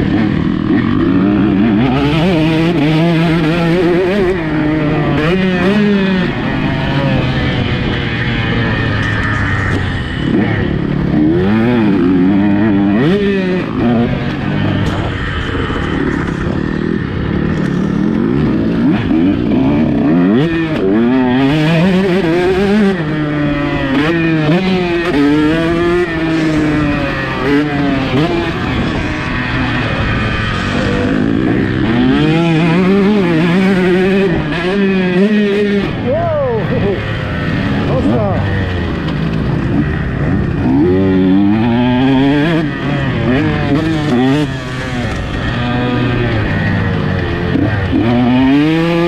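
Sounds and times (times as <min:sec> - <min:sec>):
motocross bike engine revving: 0:00.0 - 0:49.0.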